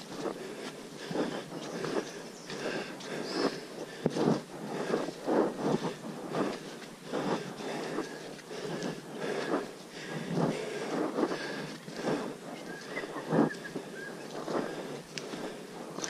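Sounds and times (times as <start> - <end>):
footsteps in mud: 0.0 - 16.0.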